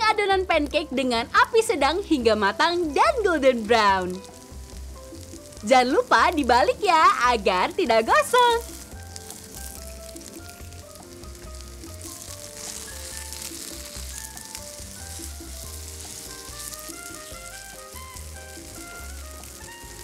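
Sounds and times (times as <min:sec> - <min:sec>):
pancakes sizzling in oil: 0:00.6 - 0:20.0.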